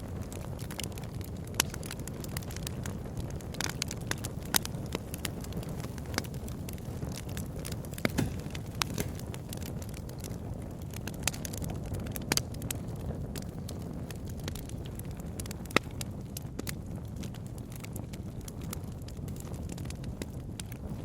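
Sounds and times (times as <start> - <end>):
bonfire crackling and popping: 0.0 - 21.0
low fire rumble: 0.0 - 21.0.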